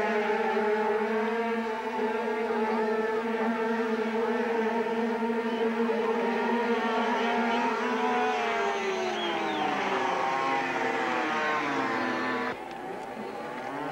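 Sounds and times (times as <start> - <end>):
motorcycles racing: 0.0 - 13.9.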